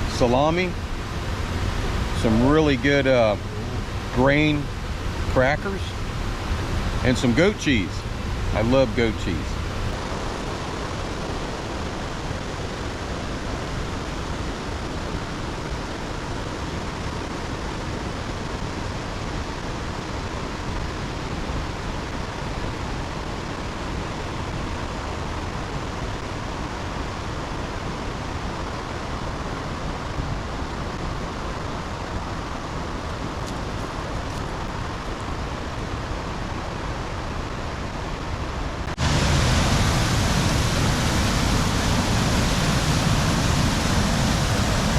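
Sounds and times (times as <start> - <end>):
river and waterfall rushing: 0.0 - 44.9.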